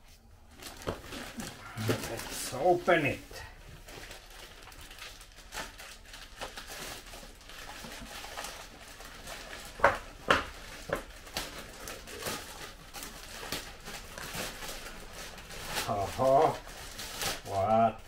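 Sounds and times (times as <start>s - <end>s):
packaging rustling and crackling: 0.4s - 18.0s.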